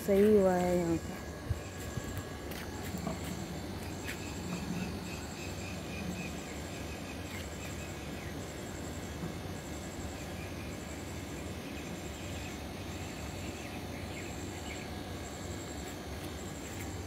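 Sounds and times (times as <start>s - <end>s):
insects trilling: 0.0s - 17.0s
low background hum: 0.0s - 17.0s.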